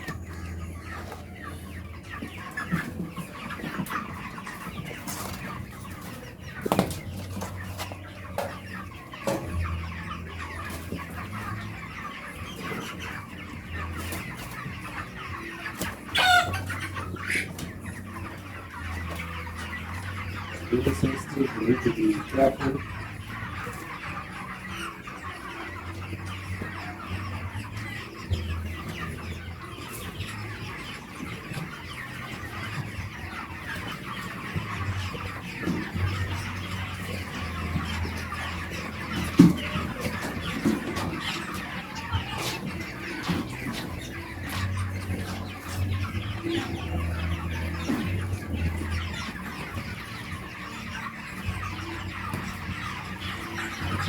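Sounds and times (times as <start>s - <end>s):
chickens clucking and chattering: 0.0s - 54.0s.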